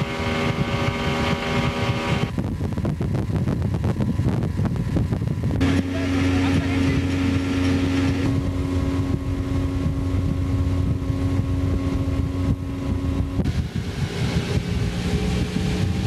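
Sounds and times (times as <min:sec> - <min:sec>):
motorboat engine humming: 0:00.0 - 0:16.0
wind buffeting microphone: 0:00.0 - 0:16.0.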